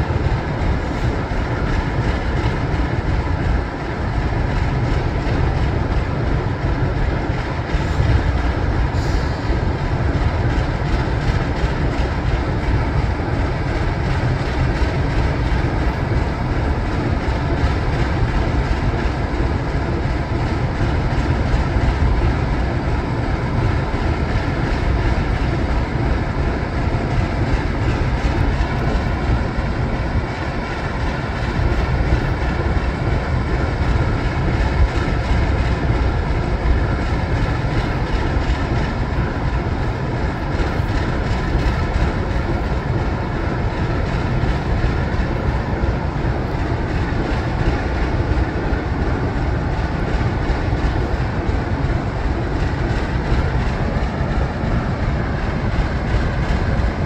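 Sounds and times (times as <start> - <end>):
diesel locomotives idling: 0.0 - 57.0.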